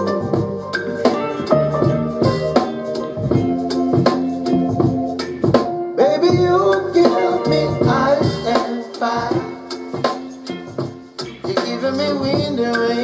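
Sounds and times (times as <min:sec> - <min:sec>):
song with drums and percussion: 0:00.0 - 0:13.0.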